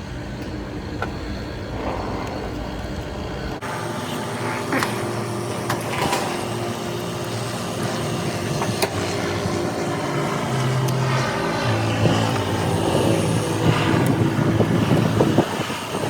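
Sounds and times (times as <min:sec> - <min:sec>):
machinery drone: 0:00.0 - 0:16.0.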